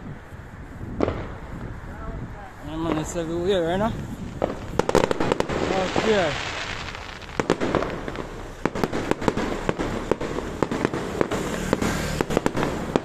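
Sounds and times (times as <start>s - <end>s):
rumble of distant explosions: 0.0s - 13.0s
fireworks bangs: 0.8s - 13.0s.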